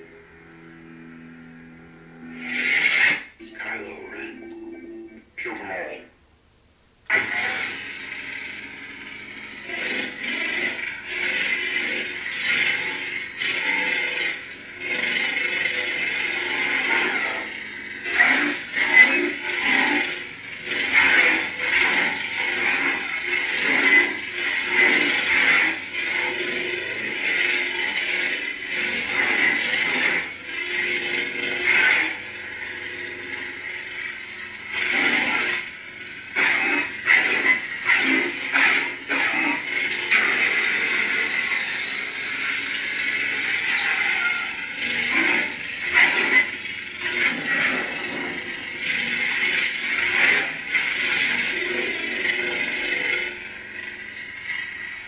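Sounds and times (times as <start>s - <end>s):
lightsaber electric hum: 0.0s - 55.0s.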